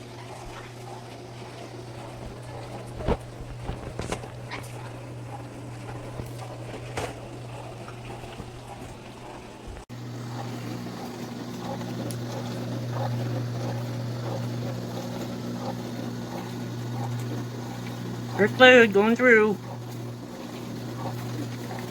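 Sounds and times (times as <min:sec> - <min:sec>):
dishwasher pump humming: 0:00.0 - 0:21.9
water spraying inside: 0:00.0 - 0:21.9.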